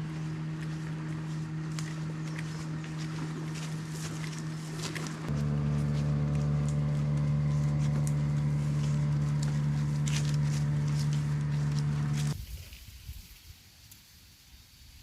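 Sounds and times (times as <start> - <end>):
low mechanical hum: 0.0 - 12.4.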